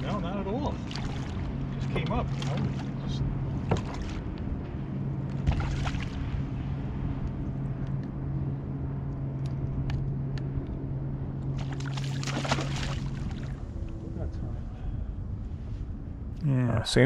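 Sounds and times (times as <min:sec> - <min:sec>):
water noise: 0:00.0 - 0:14.2
boat engine idling: 0:00.0 - 0:15.4
wind: 0:00.0 - 0:17.0.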